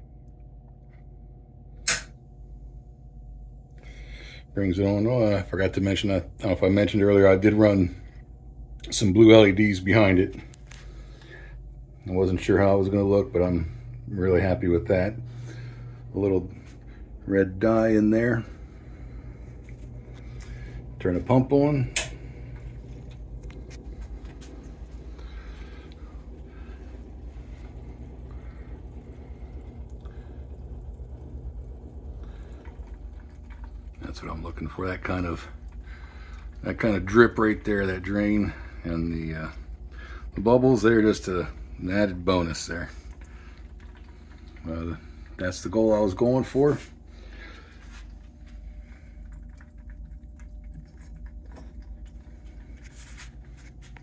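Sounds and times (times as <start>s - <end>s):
water pump humming: 0.0s - 54.0s
water dripping and draining: 3.9s - 54.0s.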